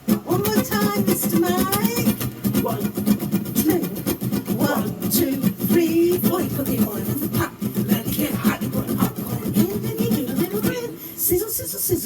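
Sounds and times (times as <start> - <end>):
voices vocalizing sing-song: 0.0 - 12.0.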